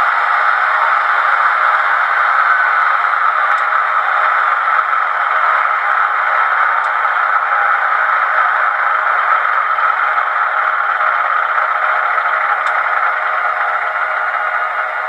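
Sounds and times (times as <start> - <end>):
model locomotive diesel sound: 0.0 - 15.0.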